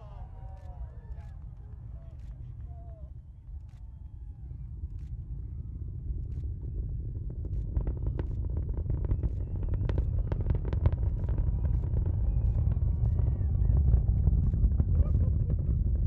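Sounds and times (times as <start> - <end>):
rocket launch rumble with crackles: 0.0 - 16.0.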